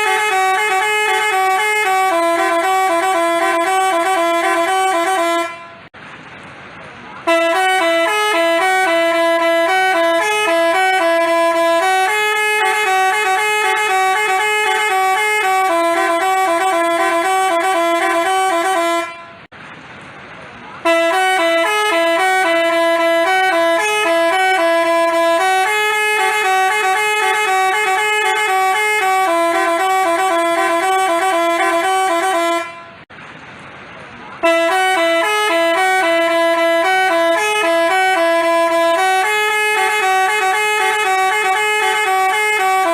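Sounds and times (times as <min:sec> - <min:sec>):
musical bus horn melody: 0:00.0 - 0:06.0, 0:07.2 - 0:19.5, 0:20.8 - 0:33.1, 0:34.4 - 0:42.9.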